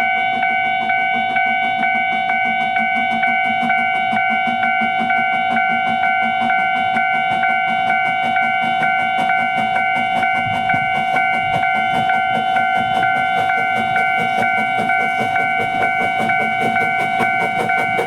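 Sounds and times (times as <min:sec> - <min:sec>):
railroad crossing alarm clanging: 0:00.0 - 0:18.0.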